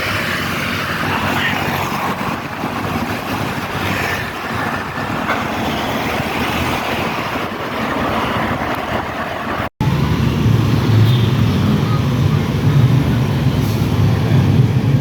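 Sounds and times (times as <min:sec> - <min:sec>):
traffic engine and tyre rush: 0:00.0 - 0:15.0.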